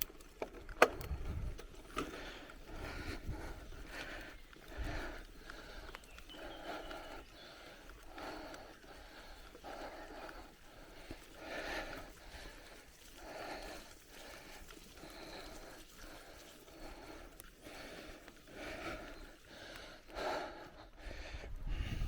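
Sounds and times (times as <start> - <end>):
cyclist breathing hard: 0.1 - 22.0.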